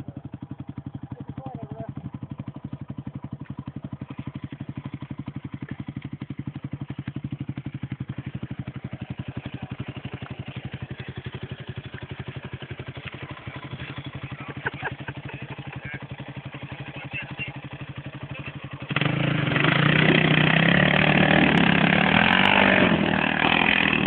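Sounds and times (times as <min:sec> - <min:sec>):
quad bike engine chugging: 0:00.0 - 0:24.0.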